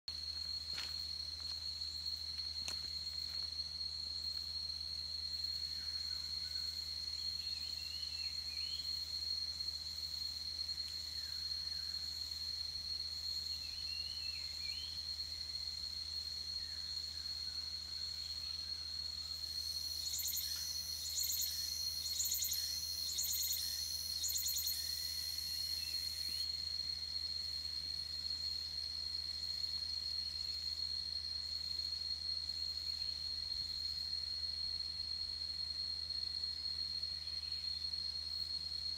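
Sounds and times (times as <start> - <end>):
cicada chorus whine: 0.1 - 38.9.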